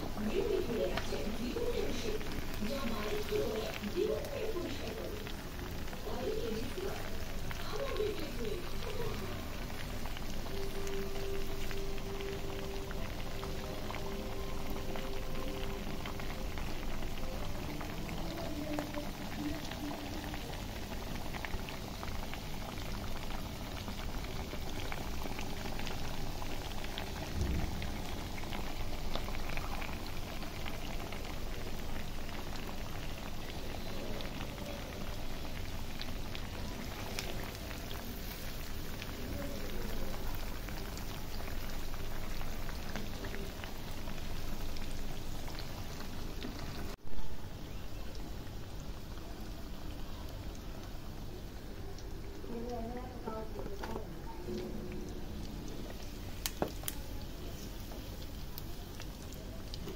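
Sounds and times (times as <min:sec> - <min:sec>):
meat deep-frying in bubbling oil: 0:00.0 - 0:59.9.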